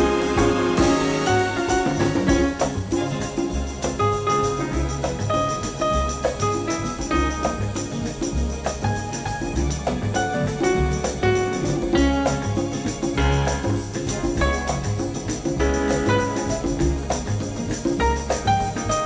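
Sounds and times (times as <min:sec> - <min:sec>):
upbeat background music: 0:00.0 - 0:19.0.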